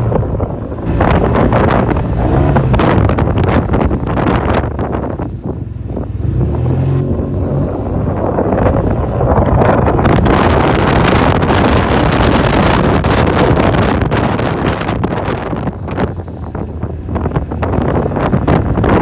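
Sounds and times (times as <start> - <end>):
scooter engine hum: 0.0 - 19.0
wind buffeting microphone: 0.0 - 19.0.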